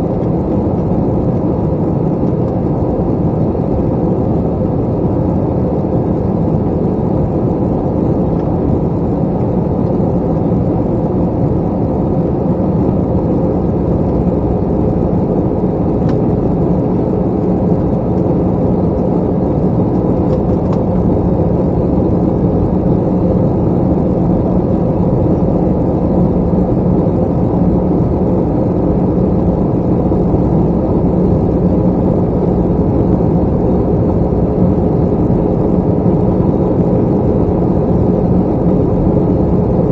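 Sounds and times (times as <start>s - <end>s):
airplane cabin engine roar: 0.0s - 39.9s
faint steady hum: 0.0s - 39.9s.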